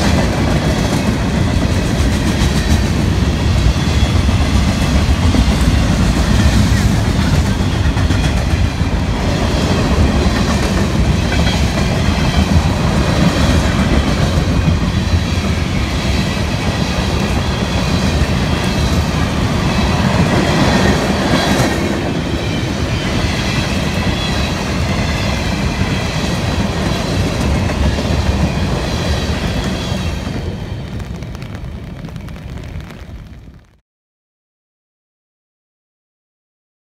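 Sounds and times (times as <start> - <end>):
freight train wheels rumbling: 0.0 - 33.6.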